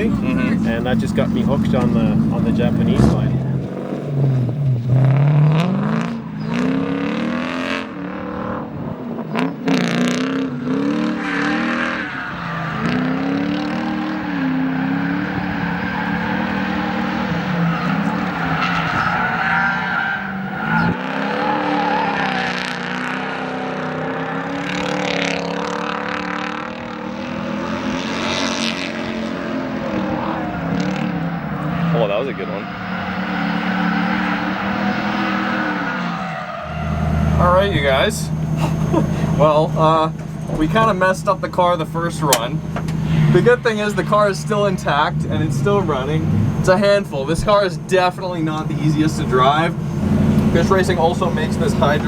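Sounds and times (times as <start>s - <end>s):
engine revs climbing and dropping: 0.0s - 52.0s.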